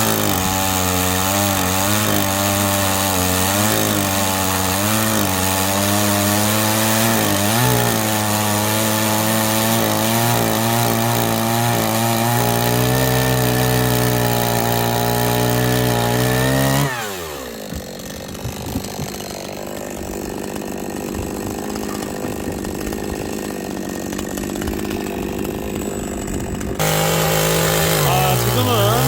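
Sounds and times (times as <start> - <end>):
chainsaw revving and idling: 0.0 - 29.0.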